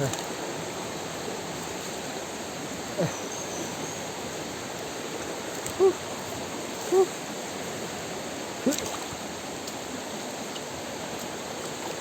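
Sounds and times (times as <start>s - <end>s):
river stream rushing: 0.0s - 12.0s.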